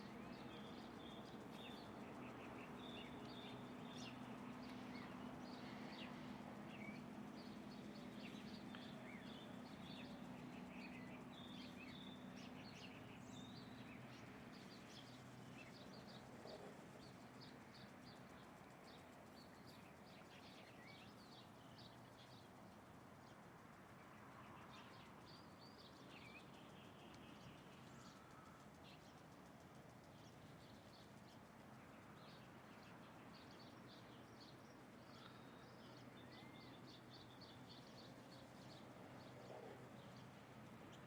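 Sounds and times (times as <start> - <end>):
low background hum: 0.0 - 41.0
small birds chirping: 0.0 - 41.0.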